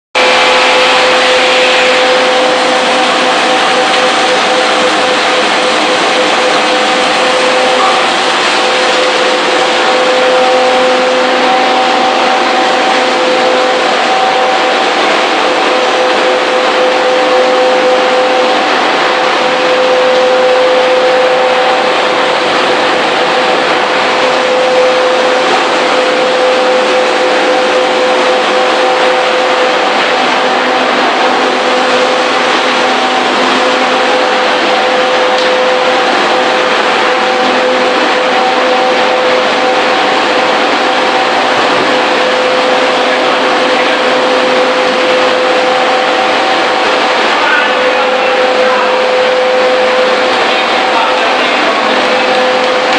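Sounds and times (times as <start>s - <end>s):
machinery running: 0.1s - 52.9s
steady machine whine: 0.1s - 52.9s.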